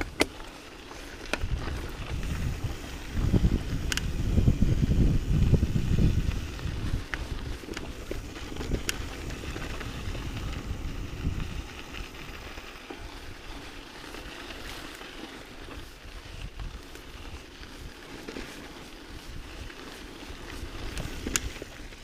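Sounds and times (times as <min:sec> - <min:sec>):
bike clicks and rattles: 0:00.0 - 0:22.0
bike tyres rolling on dirt: 0:00.0 - 0:22.0
wind rumbling on microphone: 0:00.9 - 0:14.8, 0:15.6 - 0:18.2, 0:18.8 - 0:22.0.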